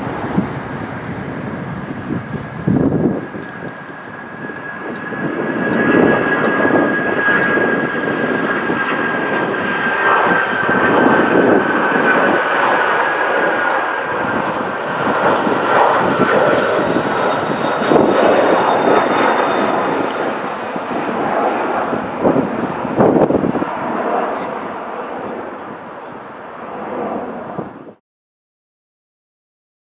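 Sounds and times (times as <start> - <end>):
jet engines at high thrust: 0.0 - 28.0.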